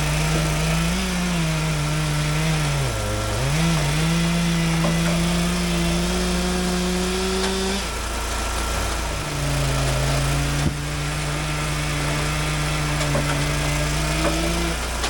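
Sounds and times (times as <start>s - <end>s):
small gas engine running: 0.0s - 15.0s.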